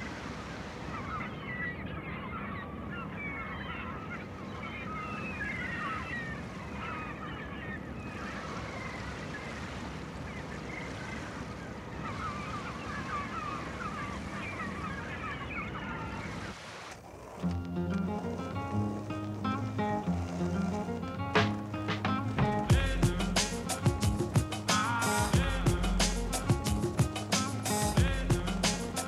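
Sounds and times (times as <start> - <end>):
birds calling and squawking: 0.0 - 29.0
surf rushing: 0.0 - 29.0.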